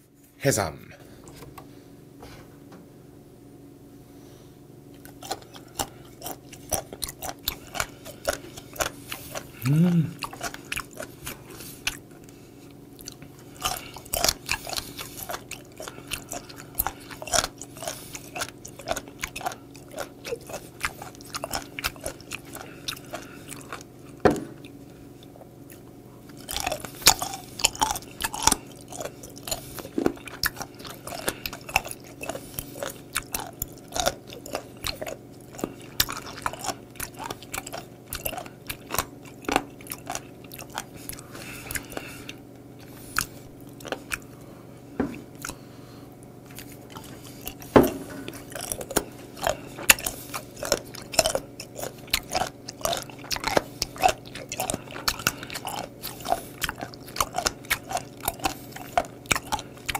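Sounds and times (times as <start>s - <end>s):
crunchy chewing: 4.8s - 59.9s.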